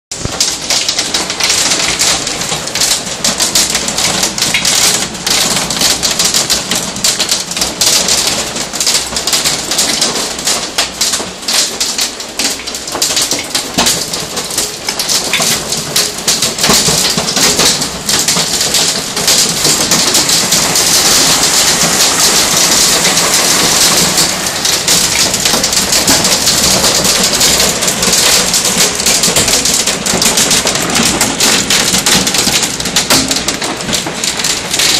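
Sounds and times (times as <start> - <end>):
hail and heavy rain pelting: 0.1 - 34.9.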